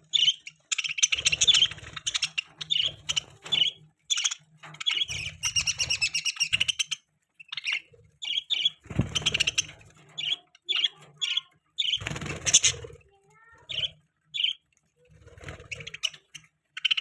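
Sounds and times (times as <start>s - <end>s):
budgerigars chirping and chattering: 0.0s - 13.0s, 13.6s - 17.0s.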